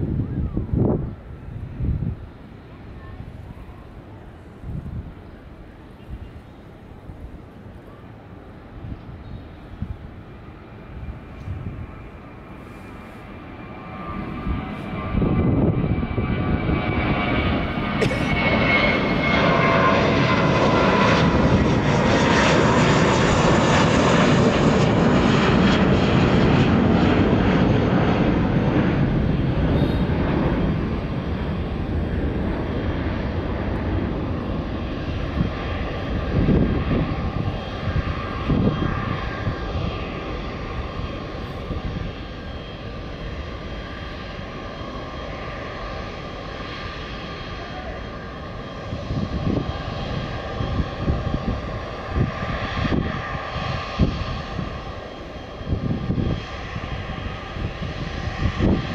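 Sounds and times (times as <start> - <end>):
jet engines running: 0.0 - 58.9.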